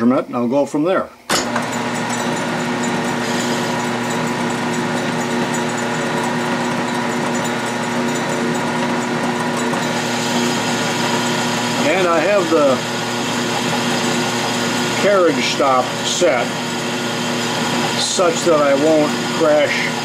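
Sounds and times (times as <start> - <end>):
lathe switching on: 1.3 - 20.0
metal lathe running: 1.3 - 20.0.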